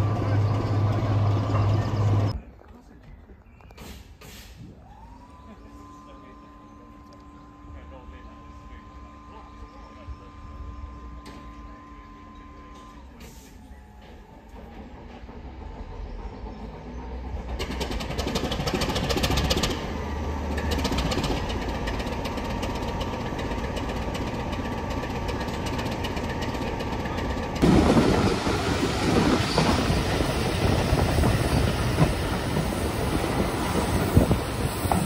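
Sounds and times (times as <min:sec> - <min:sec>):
train wheel noise: 0:00.0 - 0:02.4, 0:05.9 - 0:35.0
diesel locomotive engine rumbling: 0:00.0 - 0:35.0
wind of moving train: 0:00.0 - 0:35.0.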